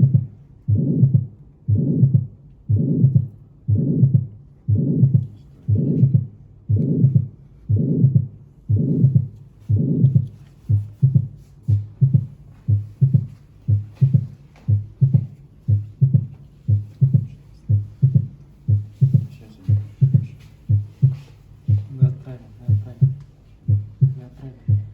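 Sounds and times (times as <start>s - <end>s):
heartbeats with murmur: 0.0s - 24.9s
short sharp heartbeats: 0.0s - 24.9s.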